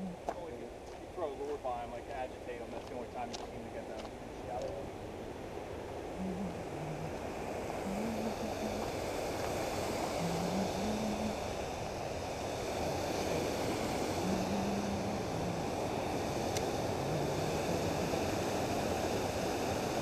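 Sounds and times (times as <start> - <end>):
creek water rushing over rocks: 2.8 - 20.0.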